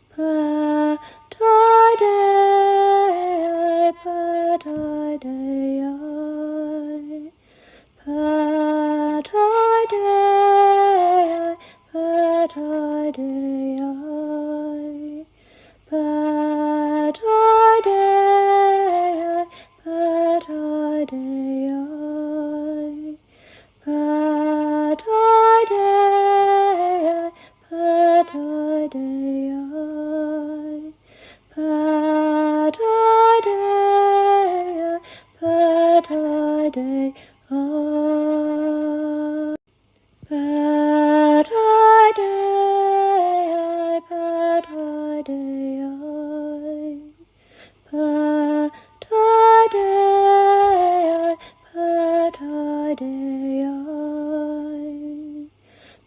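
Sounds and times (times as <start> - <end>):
woman singing unaccompanied: 0.0 - 39.6, 40.2 - 55.6.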